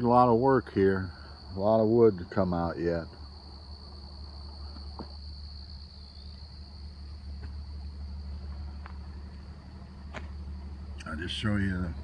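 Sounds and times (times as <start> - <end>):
crickets trilling: 0.0 - 12.0
steady low rumble: 0.0 - 12.0.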